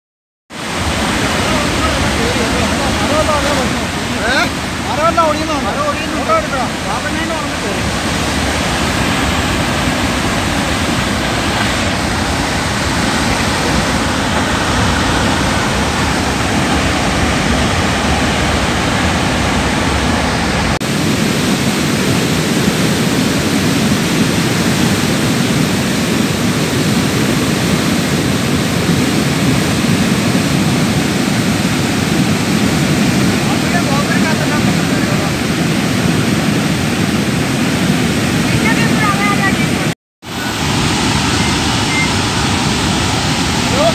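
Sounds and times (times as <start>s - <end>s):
muddy torrent rushing over rocks: 0.5s - 43.9s.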